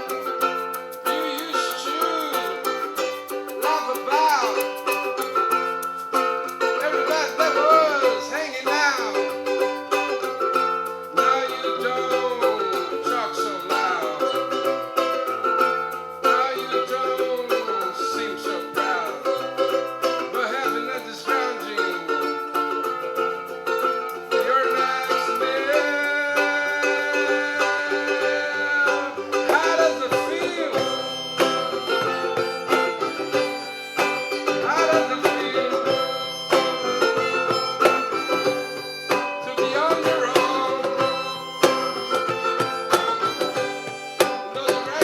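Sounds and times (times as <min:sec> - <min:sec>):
plucked acoustic strings: 0:00.0 - 0:45.0
sliding melodic lead line: 0:00.0 - 0:45.0.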